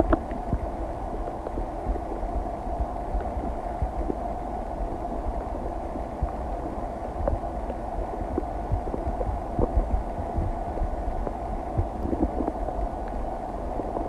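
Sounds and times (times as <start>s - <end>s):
stomach rumbling with pops: 0.0s - 14.0s.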